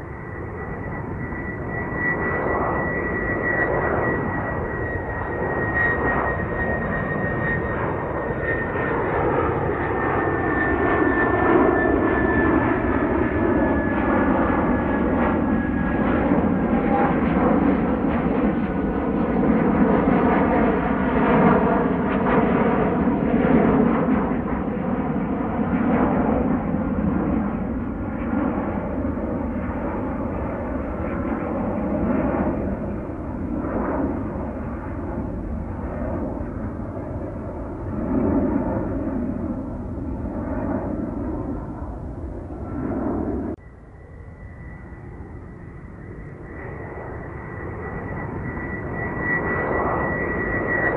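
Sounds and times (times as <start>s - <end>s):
jet engine rumble overhead: 0.0s - 50.9s.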